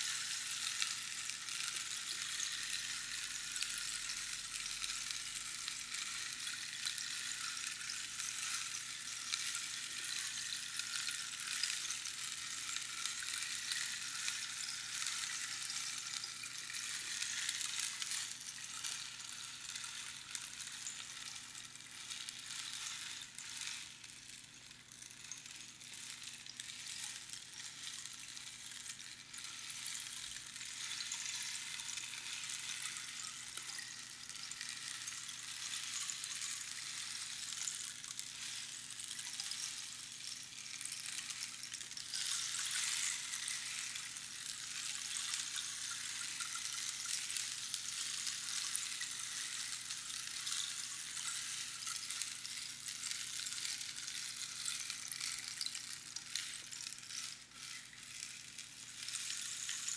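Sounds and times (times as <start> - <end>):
rainstick trickling: 0.0 - 59.9.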